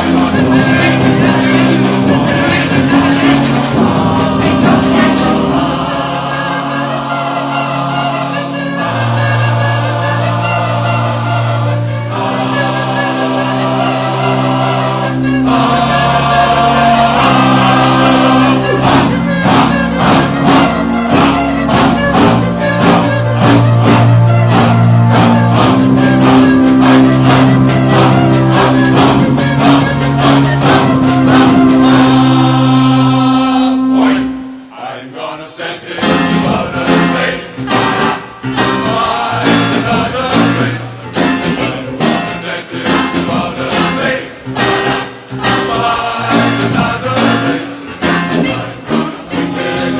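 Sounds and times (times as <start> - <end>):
percussion band drumming: 0.0 - 6.9, 8.2 - 32.6, 35.8 - 49.9
large choir singing: 0.0 - 49.9.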